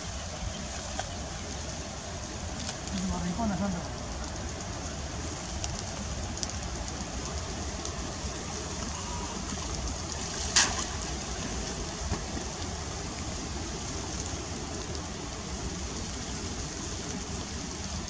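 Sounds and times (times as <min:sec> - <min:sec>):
outdoor water noise: 0:00.0 - 0:18.0.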